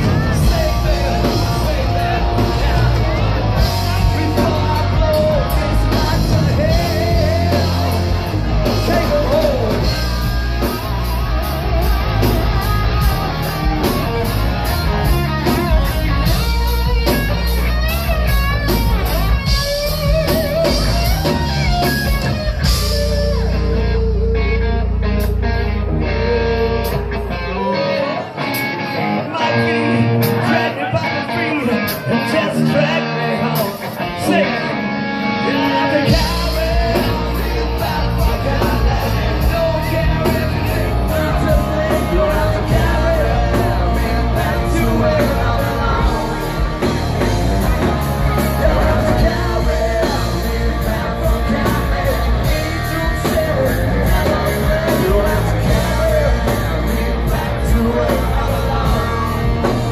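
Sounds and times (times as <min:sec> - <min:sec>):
lead electric guitar bent notes: 0:00.0 - 0:59.9
rock band playing: 0:00.0 - 0:59.9.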